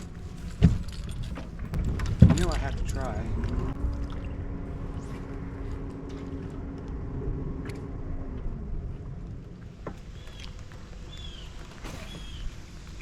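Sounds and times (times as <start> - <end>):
constant low rumble: 0.0 - 13.0
electric trolling motor humming: 0.0 - 13.0.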